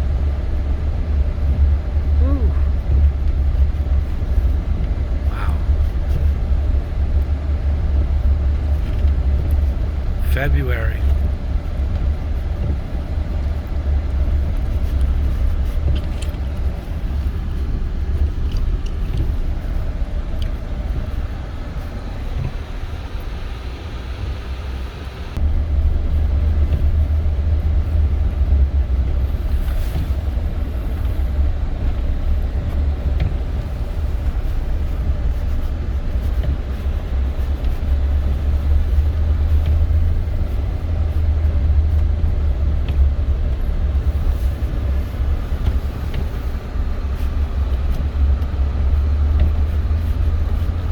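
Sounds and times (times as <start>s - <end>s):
pickup engine and tyres rumbling: 0.0s - 50.9s.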